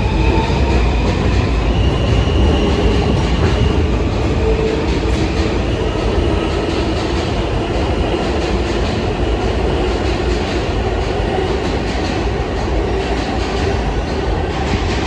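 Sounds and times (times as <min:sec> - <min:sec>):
subway train wheels rumbling on rail: 0:00.0 - 0:15.0.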